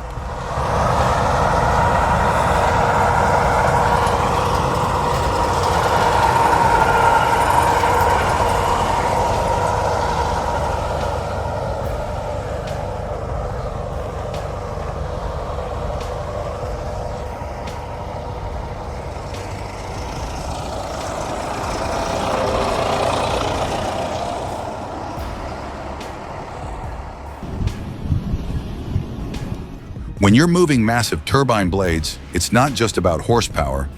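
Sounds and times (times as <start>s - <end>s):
heavy vehicle rumbling: 0.0s - 33.9s.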